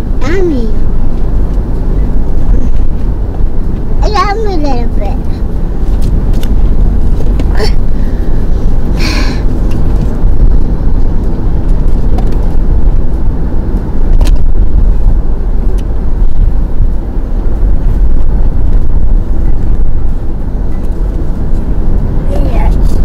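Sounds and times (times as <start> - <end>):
car cabin rumble: 0.0 - 23.0.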